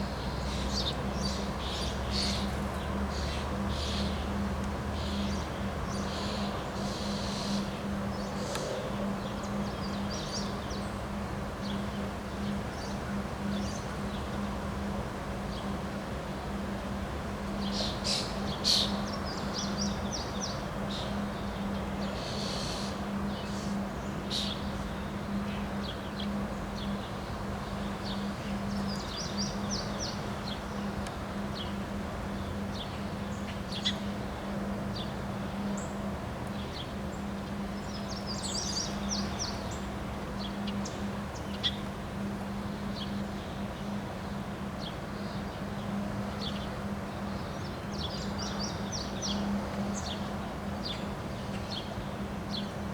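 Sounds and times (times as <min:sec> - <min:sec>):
constant low hum: 0:00.0 - 0:52.9.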